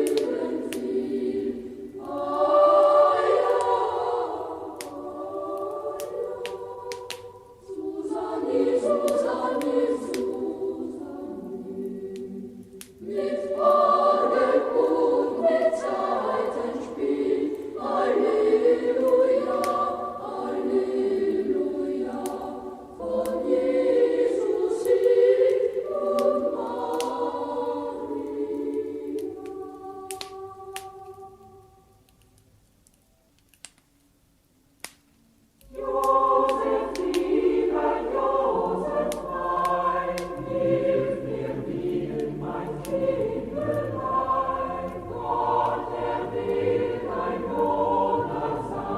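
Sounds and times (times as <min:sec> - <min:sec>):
choir singing a carol: 0:00.0 - 0:32.2, 0:35.6 - 0:48.9
log fire crackling: 0:00.0 - 0:48.9.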